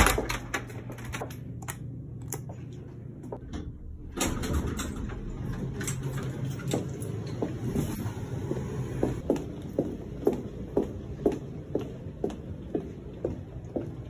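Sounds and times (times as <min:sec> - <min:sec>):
elevator hum: 0:00.0 - 0:14.0.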